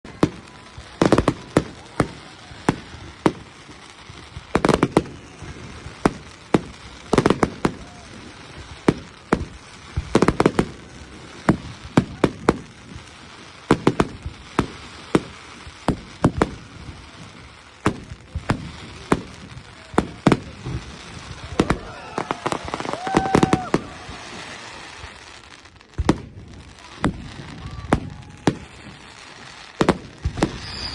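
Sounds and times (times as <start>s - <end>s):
fireworks bangs and cracks: 0.0s - 30.9s.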